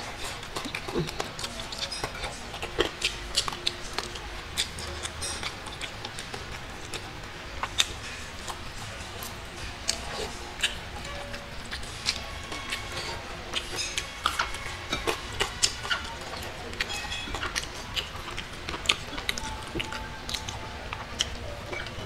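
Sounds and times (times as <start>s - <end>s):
close-up chewing with mouth clicks: 0.0s - 22.0s.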